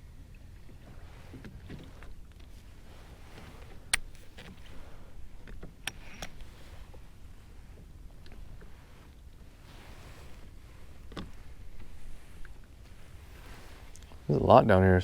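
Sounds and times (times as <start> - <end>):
water lapping against a kayak: 0.0 - 14.7.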